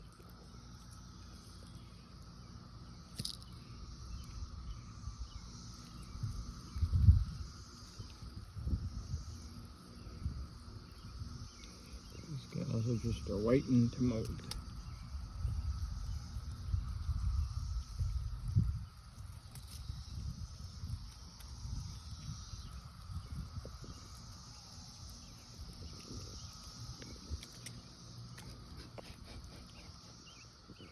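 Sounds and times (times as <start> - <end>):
distant cicada chorus drone: 0.0 - 30.9
low rumble on microphone: 0.0 - 30.9.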